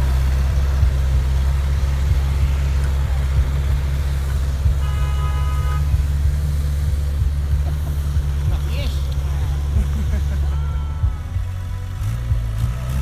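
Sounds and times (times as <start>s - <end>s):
car horn toot: 0.0s - 13.0s
off-road vehicle engine crawling: 0.0s - 13.0s.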